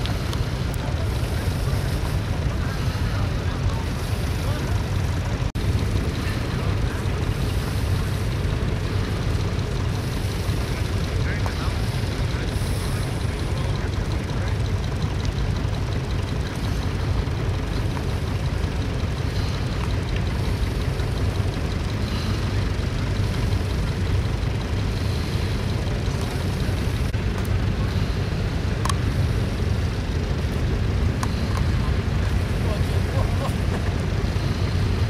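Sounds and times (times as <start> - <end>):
tractor engine rumbling: 0.0 - 35.0.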